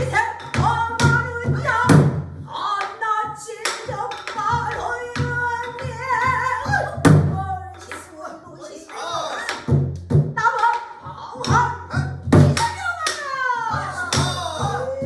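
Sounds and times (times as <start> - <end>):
person singing with vibrato: 0.0 - 9.7, 10.4 - 15.0.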